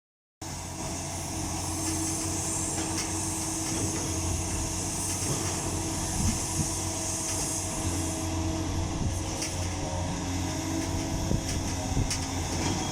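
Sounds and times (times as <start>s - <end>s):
excavator engine hum: 0.4s - 12.9s
hydraulic hiss: 1.1s - 12.9s.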